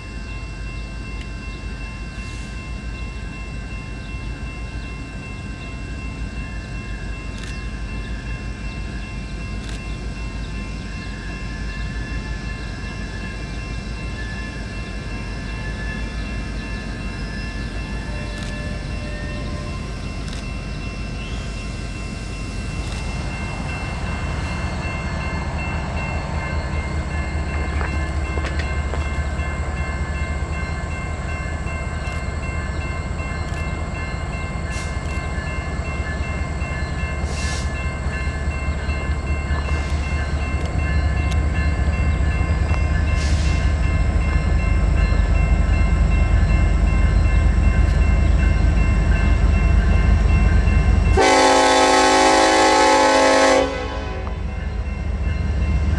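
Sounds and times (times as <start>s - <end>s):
approaching train rumble: 0.0s - 55.9s.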